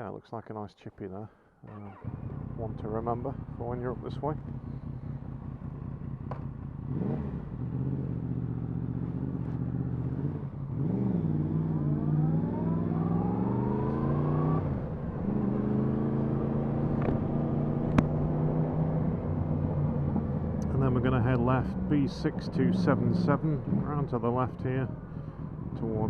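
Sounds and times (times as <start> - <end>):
motorcycle engine revving: 1.6 - 26.0.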